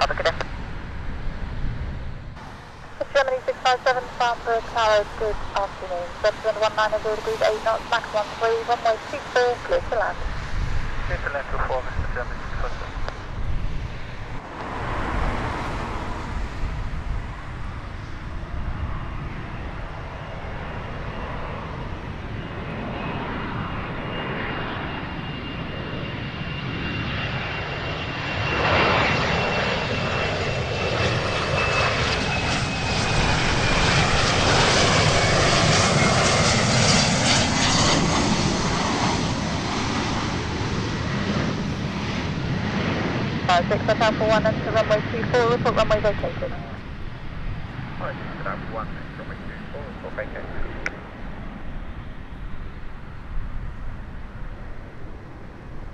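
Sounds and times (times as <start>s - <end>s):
jet rumbling with high whine: 0.0s - 55.9s.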